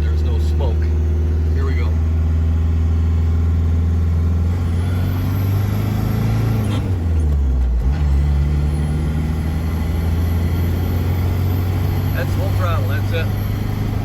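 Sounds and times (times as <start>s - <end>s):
diesel engine accelerating: 0.0s - 14.0s.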